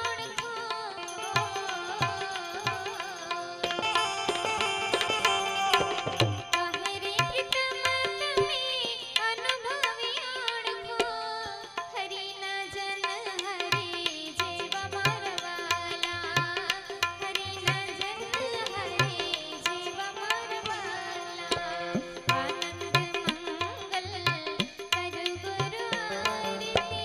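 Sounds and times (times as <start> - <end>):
tabla rhythm: 0.0 - 27.0.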